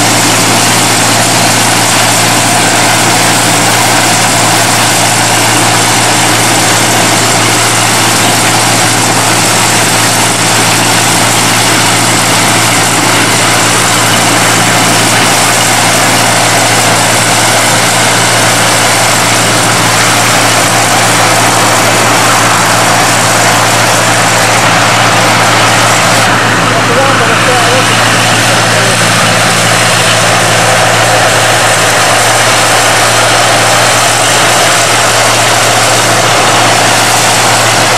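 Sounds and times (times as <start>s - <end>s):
diesel locomotive running: 0.0s - 37.9s.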